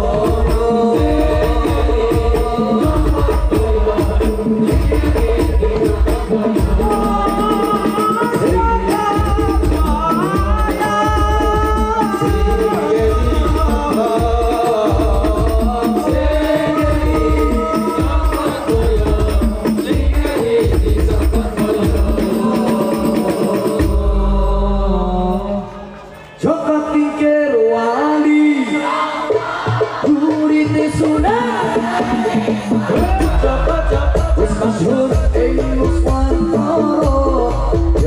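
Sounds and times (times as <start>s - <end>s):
hand drums beating: 0.0s - 24.2s, 29.2s - 38.0s
men singing devotional song: 0.0s - 38.0s.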